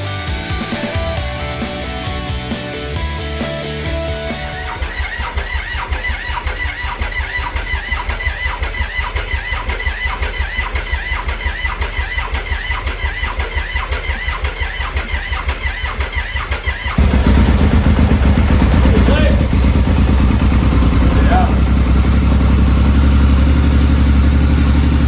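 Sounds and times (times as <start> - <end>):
engine running: 0.0 - 25.0
engine cranking on starter: 4.2 - 25.0.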